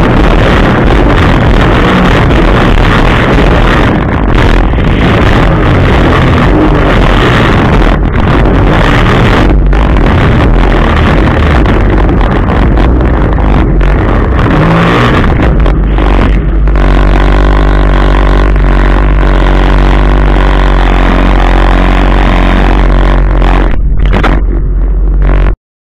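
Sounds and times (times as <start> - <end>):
water rushing and spray: 0.0 - 25.6
watercraft engine running: 0.0 - 25.6.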